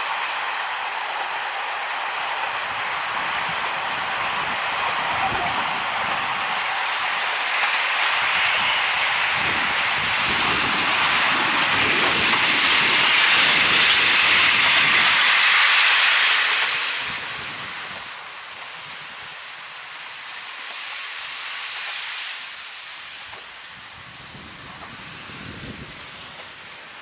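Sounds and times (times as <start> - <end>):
train wheels rushing on rails: 0.0 - 27.0.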